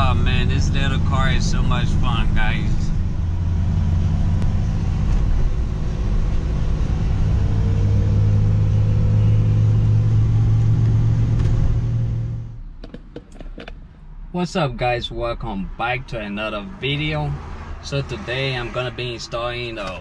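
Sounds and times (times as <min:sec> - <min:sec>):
car engine drone in cabin: 0:00.0 - 0:20.0
road rumble: 0:00.0 - 0:20.0.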